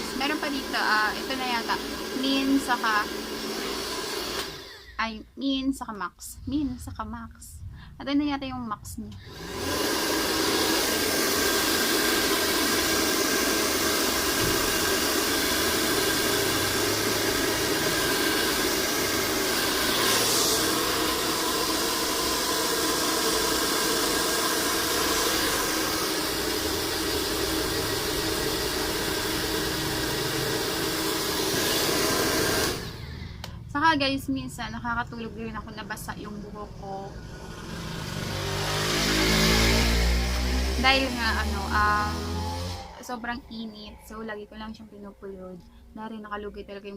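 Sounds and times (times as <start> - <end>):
hair dryer blowing air: 0.0 - 5.0, 9.2 - 33.6, 35.1 - 44.1.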